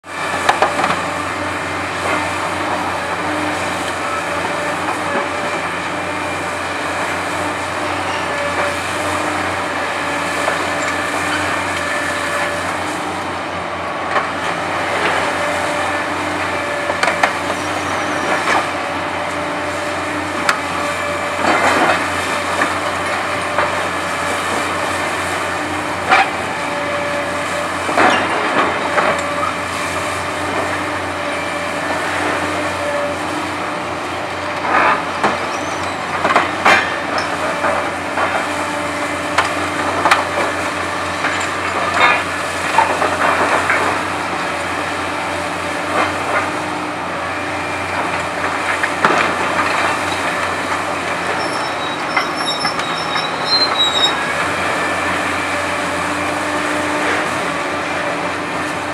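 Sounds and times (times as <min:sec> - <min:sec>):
excavator engine running: 0:00.1 - 0:58.9.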